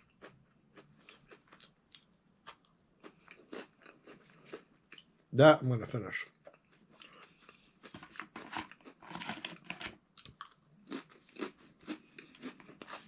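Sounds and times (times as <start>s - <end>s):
chewing and crunching cookie: 0.0s - 5.3s, 6.2s - 13.0s.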